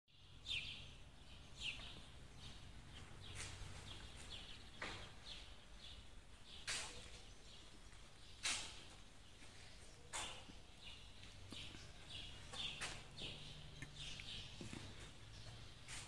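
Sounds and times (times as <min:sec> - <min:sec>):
birds chirping: 0:00.2 - 0:16.0.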